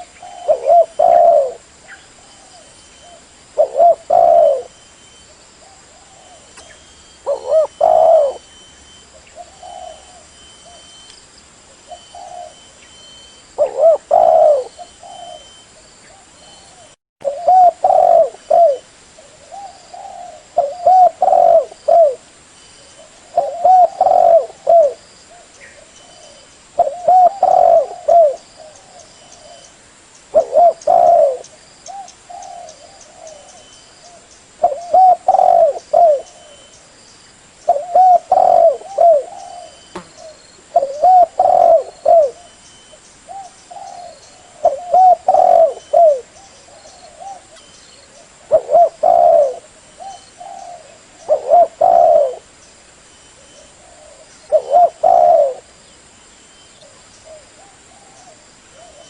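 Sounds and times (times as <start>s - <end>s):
dove cooing: 0.0s - 4.8s, 5.6s - 11.0s, 11.7s - 22.3s, 22.9s - 29.7s, 30.3s - 36.7s, 37.7s - 42.6s, 43.3s - 52.5s, 53.4s - 55.7s, 56.8s - 59.0s.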